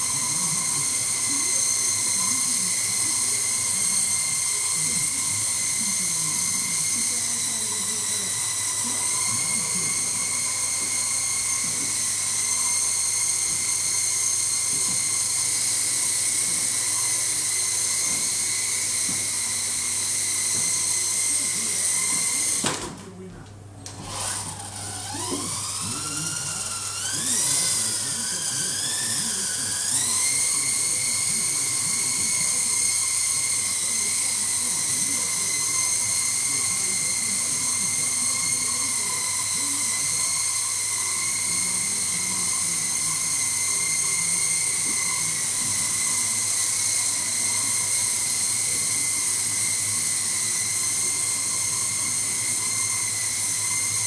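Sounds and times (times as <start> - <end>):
toy helicopter rotor whine: 0.0 - 54.0.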